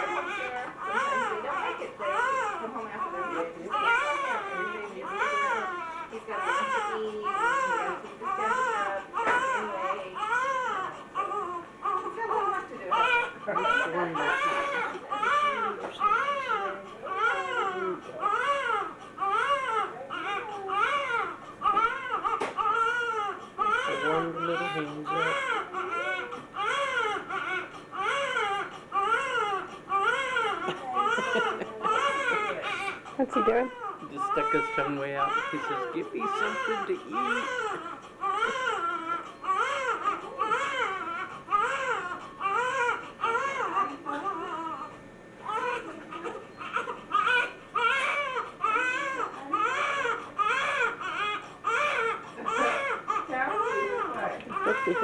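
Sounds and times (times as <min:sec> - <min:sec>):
newborn baby crying: 0:00.0 - 0:55.0.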